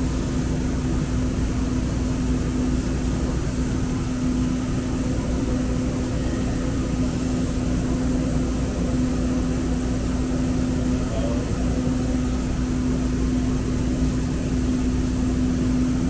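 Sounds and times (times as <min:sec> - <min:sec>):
train car hum and rumble: 0:00.0 - 0:16.0
constant drone: 0:01.7 - 0:16.0.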